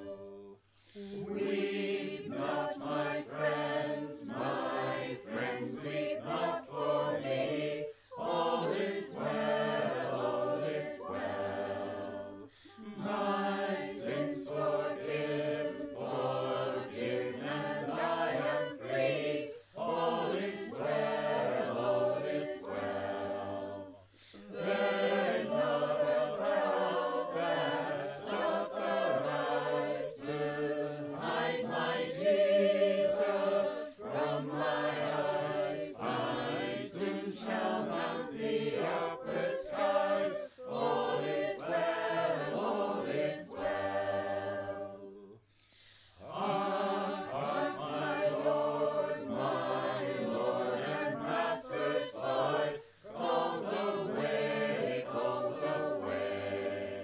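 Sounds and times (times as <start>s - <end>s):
mixed choir singing a cappella: 0.0s - 57.0s.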